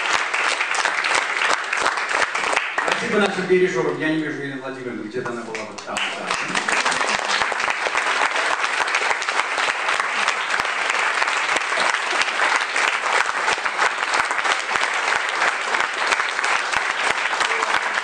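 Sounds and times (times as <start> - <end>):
crowd applauding: 0.0 - 3.8, 5.3 - 18.0.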